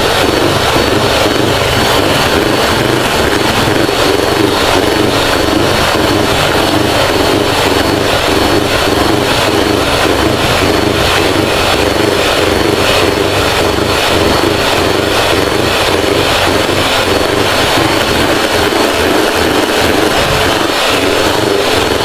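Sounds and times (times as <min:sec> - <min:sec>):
electric hand mixer whipping cream: 0:00.0 - 0:22.0.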